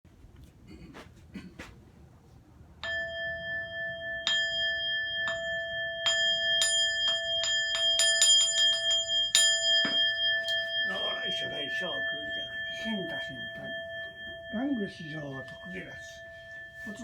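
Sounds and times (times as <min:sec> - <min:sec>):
bowl bell struck: 0:02.8 - 0:17.0.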